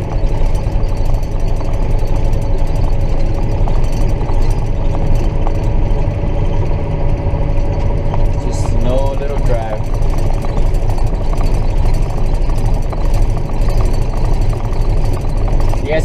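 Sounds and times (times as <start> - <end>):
thin steady whine: 0.0 - 16.0
tractor diesel engine running: 0.0 - 16.0.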